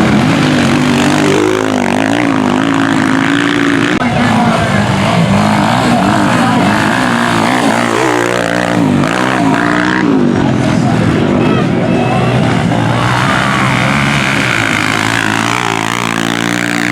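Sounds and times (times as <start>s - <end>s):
motorcycle engines revving: 0.0s - 16.9s.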